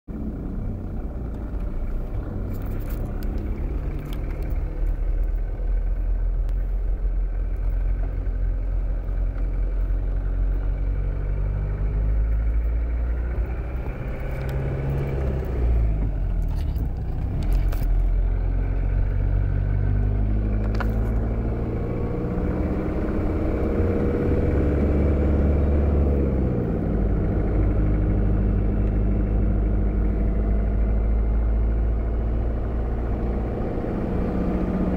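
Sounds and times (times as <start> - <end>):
engine and drivetrain drone: 0.1 - 34.9.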